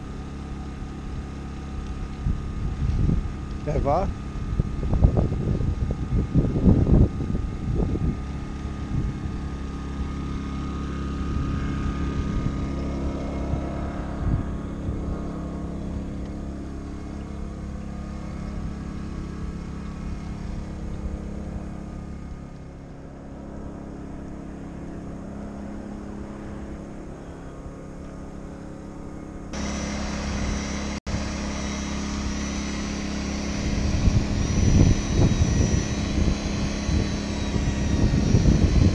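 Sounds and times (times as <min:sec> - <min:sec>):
electric rotary buffer running: 0:00.0 - 0:38.9.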